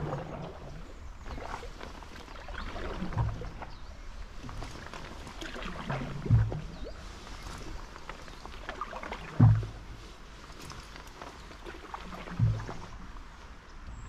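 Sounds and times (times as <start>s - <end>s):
canoe paddle strokes in water: 0.0s - 14.0s.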